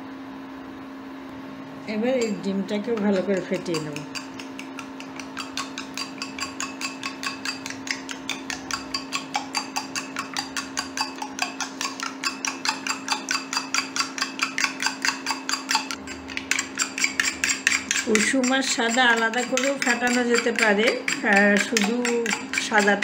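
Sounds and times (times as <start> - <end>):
spoon beating eggs in glass bowl: 1.9 - 23.0.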